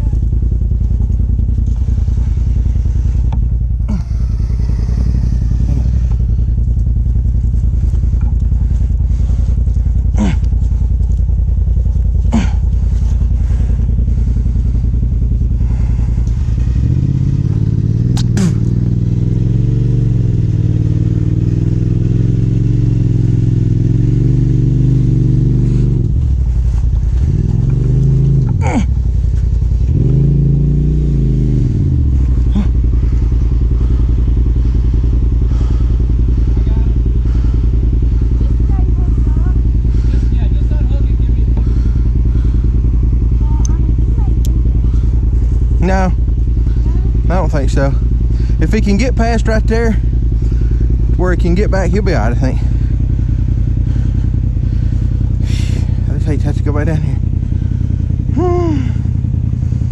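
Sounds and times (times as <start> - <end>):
utility vehicle engine idling: 0.0 - 59.9.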